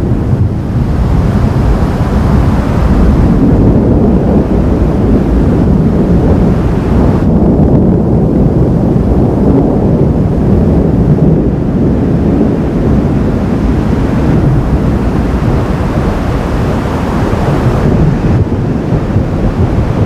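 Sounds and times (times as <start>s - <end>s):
thunderstorm rumble: 0.0s - 20.0s.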